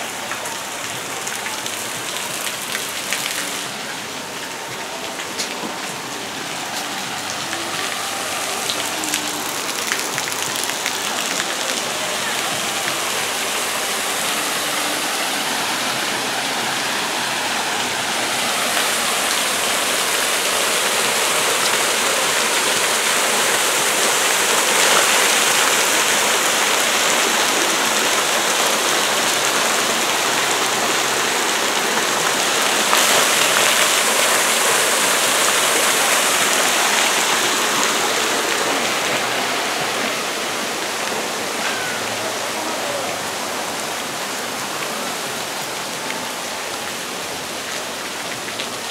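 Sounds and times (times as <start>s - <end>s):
water streaming and splashing: 0.0s - 48.9s
waterfall over rocks: 0.0s - 48.9s.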